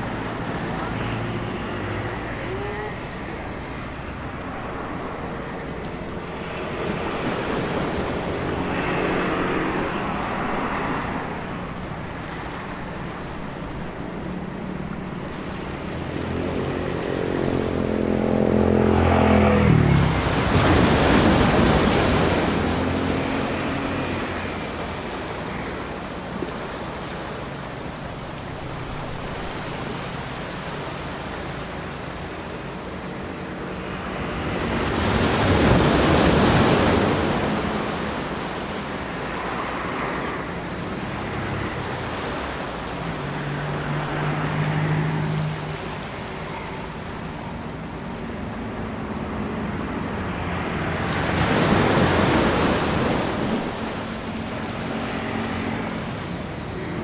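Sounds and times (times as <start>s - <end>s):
sea waves on rocks: 0.0s - 57.0s
street traffic hum: 0.0s - 57.0s.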